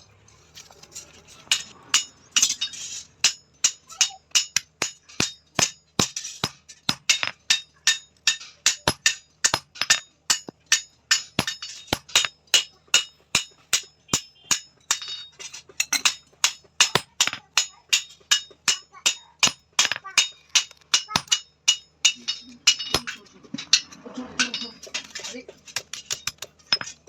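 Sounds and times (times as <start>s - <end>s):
hammer striking steel on anvil: 1.5s - 25.2s.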